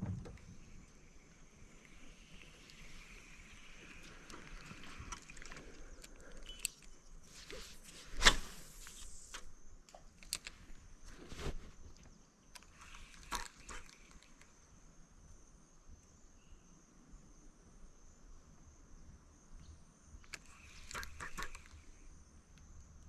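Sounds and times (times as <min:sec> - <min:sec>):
insect chirring: 0:00.3 - 0:23.0.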